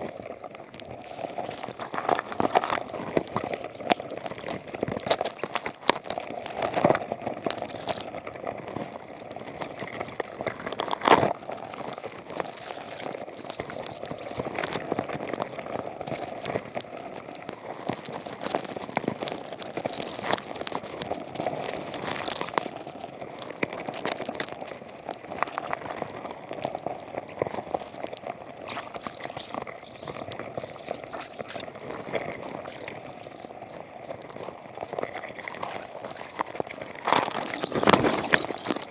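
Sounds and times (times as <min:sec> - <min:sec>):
underwater crackling and clicking: 0:00.0 - 0:38.9.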